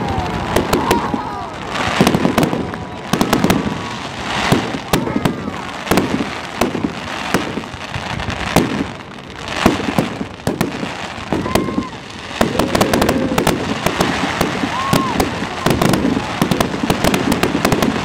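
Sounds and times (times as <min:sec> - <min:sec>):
crowd voices: 0:00.0 - 0:18.0
fireworks bursting with crackling: 0:00.0 - 0:18.0.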